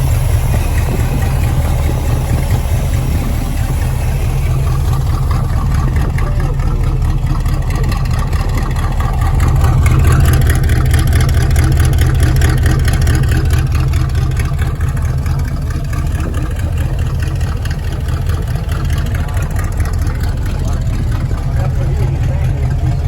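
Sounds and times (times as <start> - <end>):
car engine exhaust rumble: 0.0 - 23.0.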